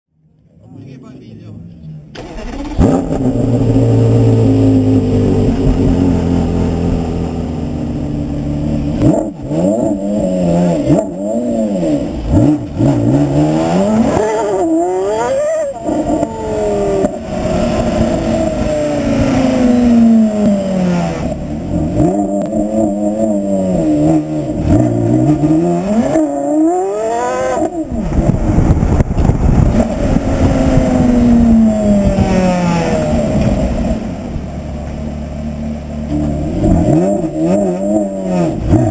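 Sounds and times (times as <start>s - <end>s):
sports car engine idling and revving: 0.1s - 38.9s.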